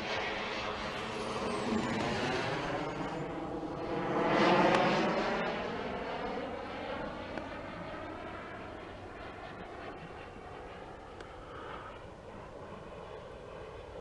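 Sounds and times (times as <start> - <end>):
model jet engine flying: 0.0 - 14.0.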